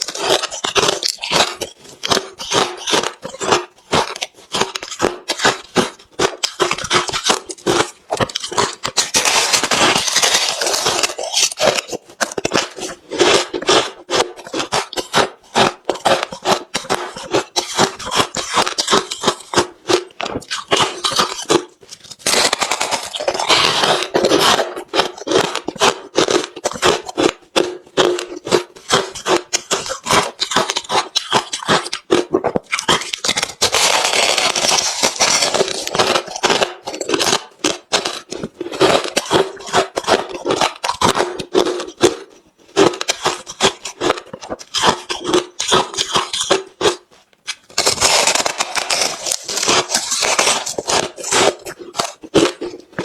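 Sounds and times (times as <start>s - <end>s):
chewing crushed ice: 0.0s - 53.0s.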